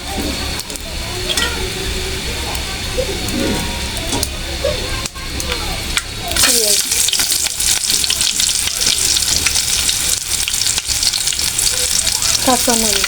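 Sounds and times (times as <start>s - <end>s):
hot oil sizzling and crackling: 0.0s - 13.0s.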